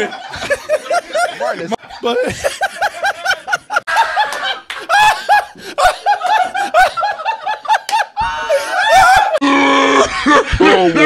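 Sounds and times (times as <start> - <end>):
man laughing hard: 0.0 - 11.0.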